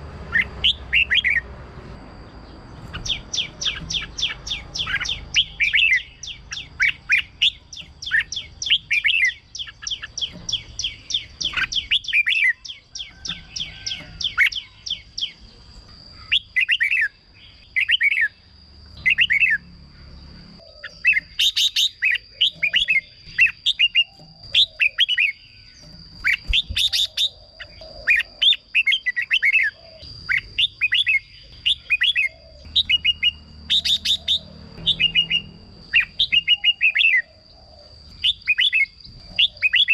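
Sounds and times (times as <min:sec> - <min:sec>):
bulbul singing: 0:00.2 - 0:39.9.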